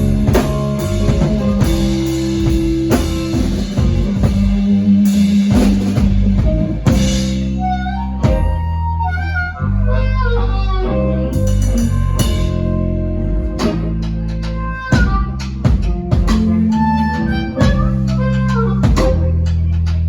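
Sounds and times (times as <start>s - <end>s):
blues band playing: 0.0s - 20.0s.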